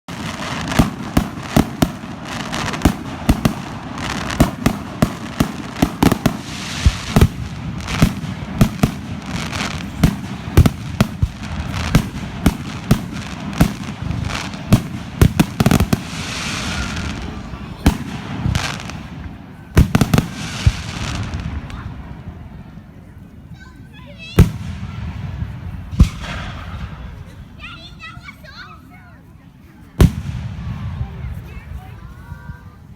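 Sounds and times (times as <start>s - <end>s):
fireworks bursting with sharp bangs: 0.1s - 22.9s, 24.2s - 28.1s, 29.9s - 32.8s
background rumble and hiss: 0.2s - 32.9s.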